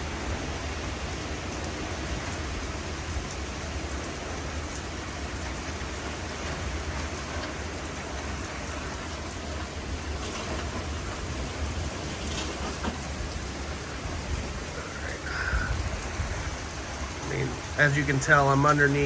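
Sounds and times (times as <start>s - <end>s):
heavy rain pouring: 0.0s - 19.0s
raindrops pattering close by: 0.0s - 19.0s
strong wind gusts: 0.0s - 19.0s.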